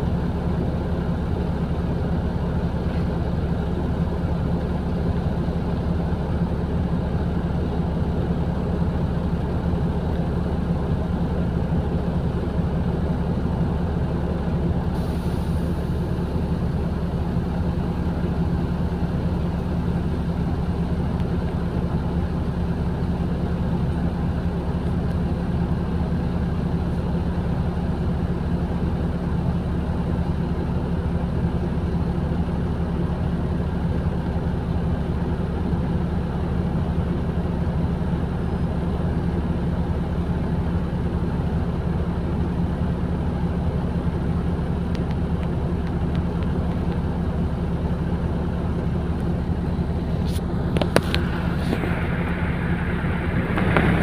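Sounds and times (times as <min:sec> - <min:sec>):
bus engine humming: 0:00.0 - 0:54.0.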